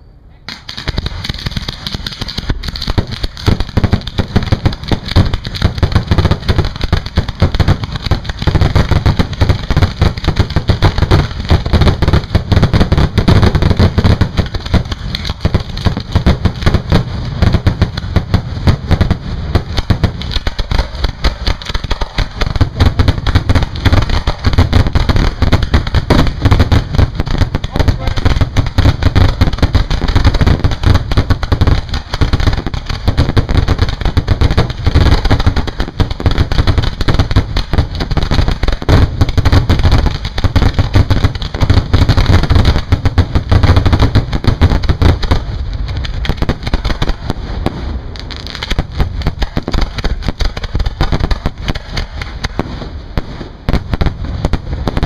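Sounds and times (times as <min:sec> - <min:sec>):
fireworks barrage: 0:00.0 - 0:55.0.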